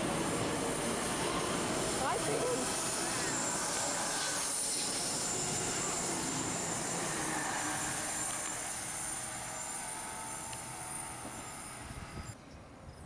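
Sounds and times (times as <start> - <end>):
train wheels on rails: 0.0 - 12.4.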